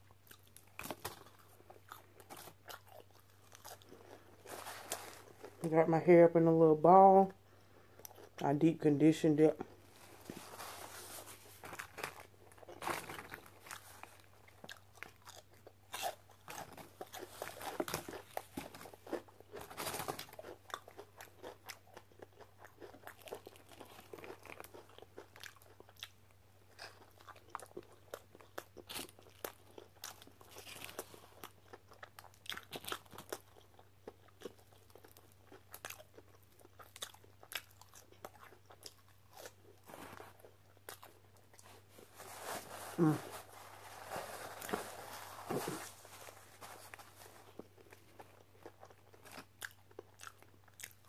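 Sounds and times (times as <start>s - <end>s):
crunchy chewing: 0.0s - 5.6s, 9.6s - 51.0s
faint low hum: 0.0s - 51.0s.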